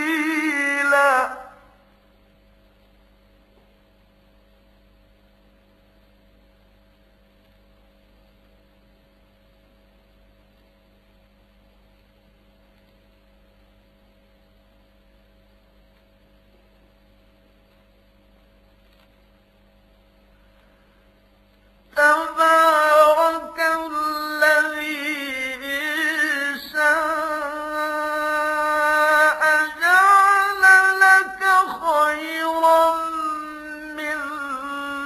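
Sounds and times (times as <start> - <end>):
faint hiss: 0.0 - 35.0
low electrical hum: 0.0 - 35.0.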